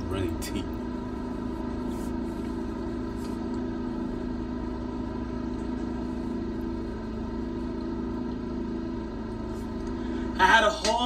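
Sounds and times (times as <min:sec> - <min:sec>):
steady motor hum: 0:00.0 - 0:11.0.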